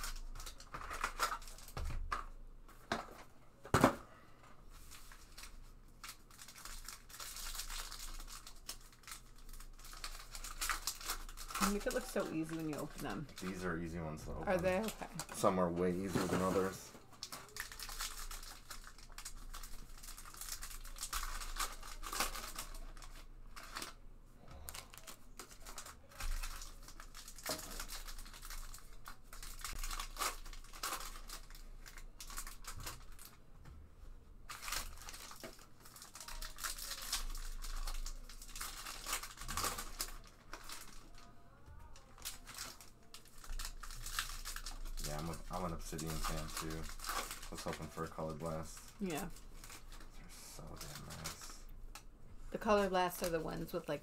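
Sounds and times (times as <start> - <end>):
foil wrappers tearing and crinkling: 0.0 - 2.2, 4.8 - 13.9, 14.5 - 24.0, 24.6 - 33.4, 34.5 - 51.7.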